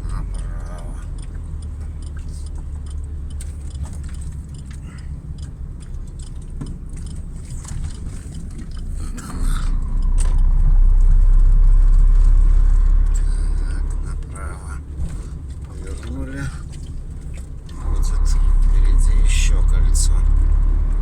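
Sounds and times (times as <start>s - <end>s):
truck engine rumble: 0.0s - 21.0s
turn-signal relay ticking: 0.0s - 21.0s.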